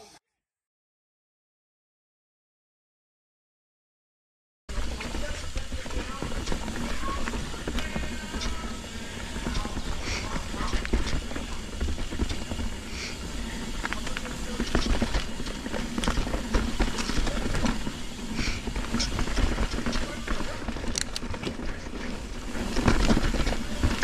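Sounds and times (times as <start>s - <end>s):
bike rattling over rocks: 4.7s - 24.0s.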